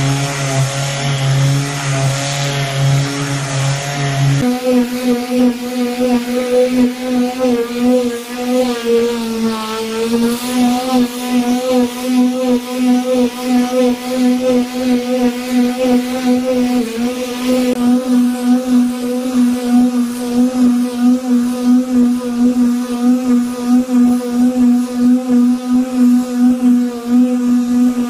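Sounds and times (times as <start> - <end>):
palm sander motor buzzing: 0.0 - 28.0
sanding pad hissing on wood: 0.0 - 28.0.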